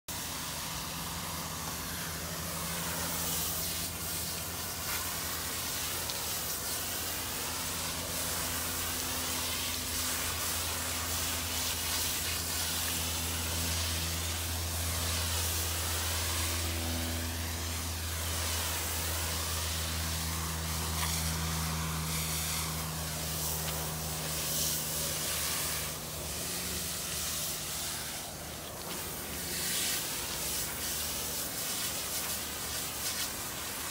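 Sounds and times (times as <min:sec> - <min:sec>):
low hum of machinery: 0:00.1 - 0:33.9
pressure washer spray hissing: 0:00.1 - 0:33.9.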